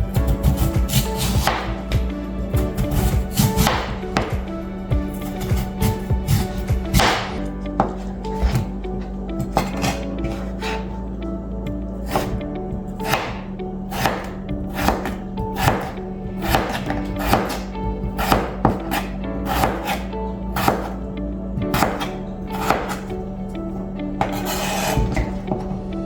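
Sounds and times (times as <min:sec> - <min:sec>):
knife chopping potatoes on board: 0:00.0 - 0:08.7, 0:09.4 - 0:10.9, 0:12.0 - 0:12.4, 0:13.0 - 0:21.0, 0:21.7 - 0:23.1, 0:24.2 - 0:25.7
background music: 0:00.0 - 0:26.0.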